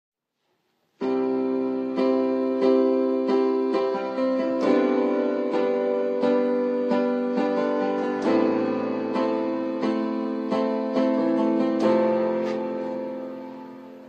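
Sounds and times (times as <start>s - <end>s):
piano chords: 1.0s - 14.0s.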